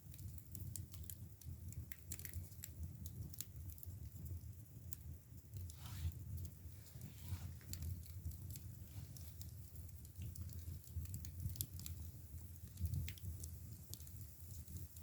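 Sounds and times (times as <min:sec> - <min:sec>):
firewood crackling and popping: 0:00.0 - 0:15.0
low steady fire rumble: 0:00.0 - 0:15.0.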